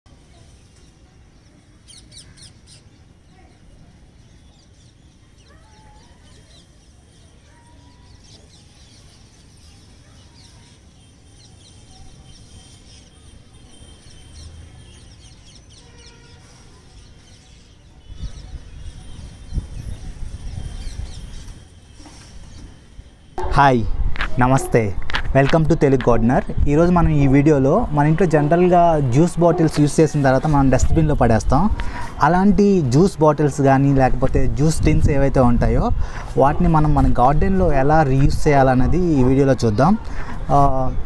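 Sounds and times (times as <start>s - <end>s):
birds chirping: 1.3s - 41.0s.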